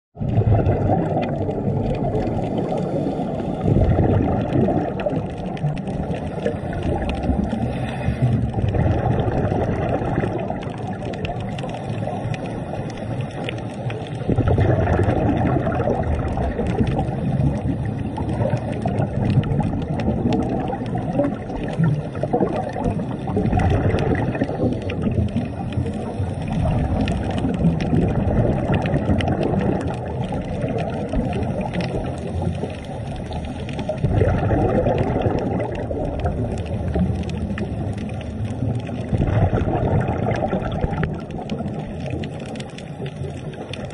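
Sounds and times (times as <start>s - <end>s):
low underwater wash: 0.1s - 43.9s
faint crackling clicks: 0.3s - 43.9s.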